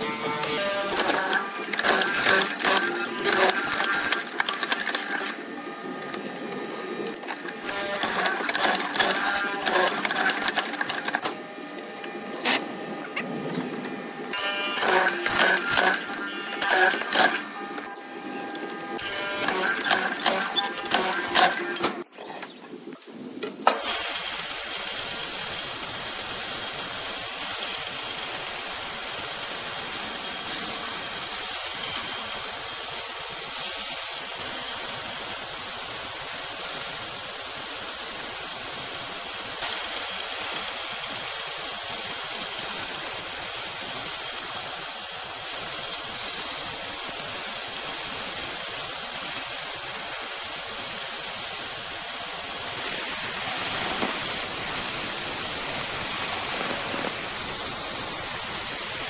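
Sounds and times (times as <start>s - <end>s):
workshop tool running: 0.0s - 22.6s, 23.4s - 59.0s.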